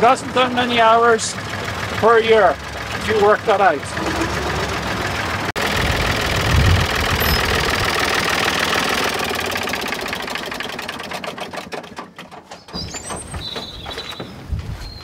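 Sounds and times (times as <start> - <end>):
tractor engine knocking: 0.0 - 14.3.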